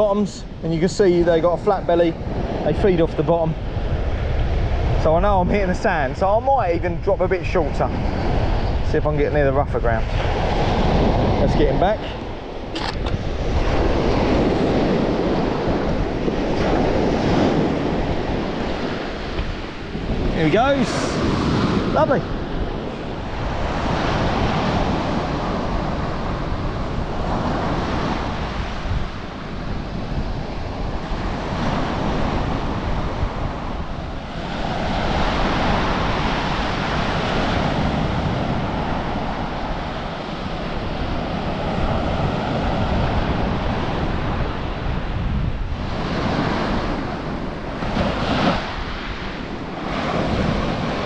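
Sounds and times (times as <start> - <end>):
small waves washing up stony beach: 9.8 - 51.0.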